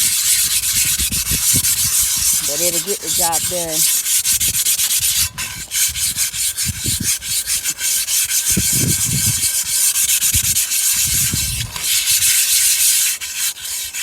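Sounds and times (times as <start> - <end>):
brick scraping on cast iron: 0.0 - 14.0.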